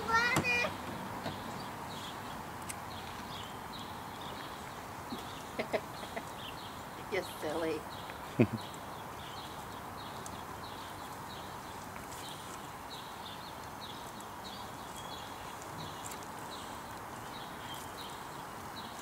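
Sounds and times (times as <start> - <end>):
bird chirping: 0.0 - 19.0
steady outdoor hum: 0.0 - 19.0.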